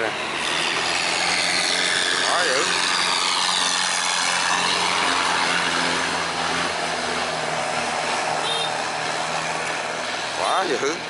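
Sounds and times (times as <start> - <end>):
boat engine at high revs: 0.0 - 11.0.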